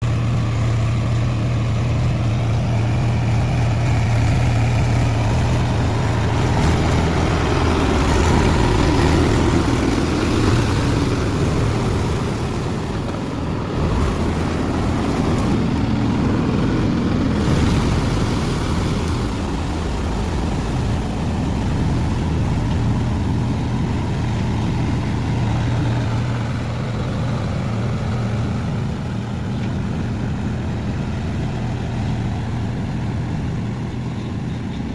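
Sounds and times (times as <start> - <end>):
tractor diesel engine droning: 0.0 - 34.9.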